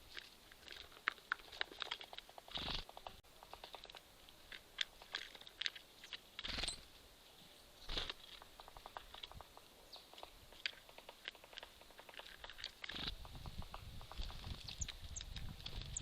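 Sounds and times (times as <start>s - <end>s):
birds pecking at seeds: 0.0s - 7.1s, 7.8s - 16.0s
birds scuffling: 0.0s - 7.1s, 7.8s - 16.0s.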